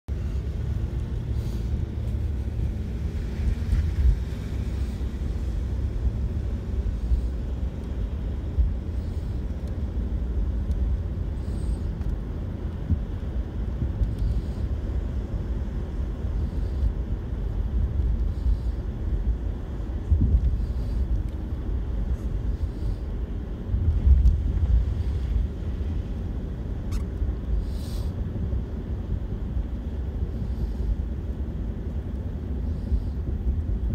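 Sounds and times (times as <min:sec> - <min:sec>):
car cabin rumble: 0:00.1 - 0:33.9.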